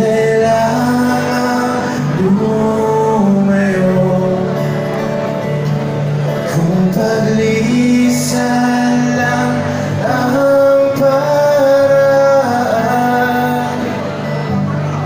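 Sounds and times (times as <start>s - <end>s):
person singing long held notes: 0.0s - 5.1s, 6.4s - 14.7s
acoustic guitars strummed: 0.0s - 15.0s.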